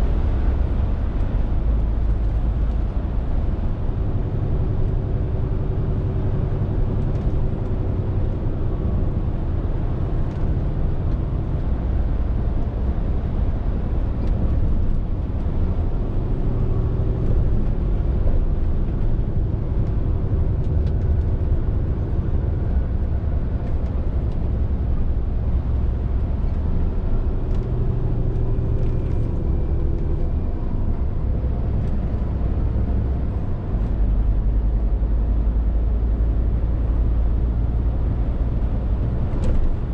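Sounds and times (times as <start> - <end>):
diesel lorry engine running: 0.0 - 39.9
road and tyre noise: 0.0 - 39.9.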